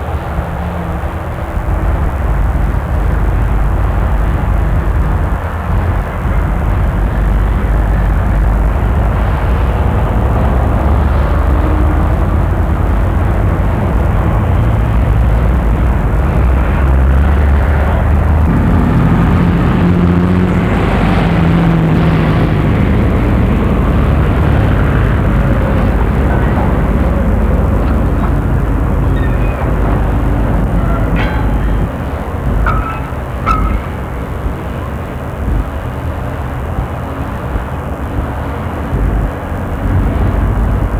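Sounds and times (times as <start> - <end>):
road traffic: 0.0 - 40.9.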